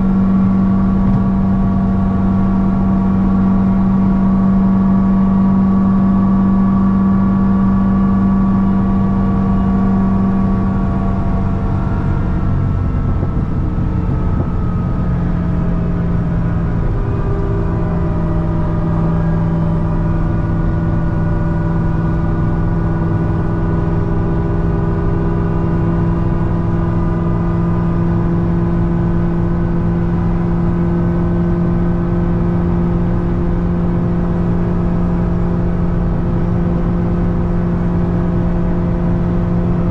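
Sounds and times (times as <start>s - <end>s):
car engine cruising: 0.0s - 39.9s.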